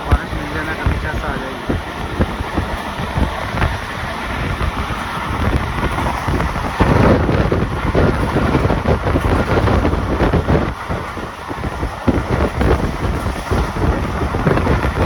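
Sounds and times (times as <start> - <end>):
passenger train rumbling: 0.0 - 15.0
wind buffeting microphone: 0.0 - 15.0.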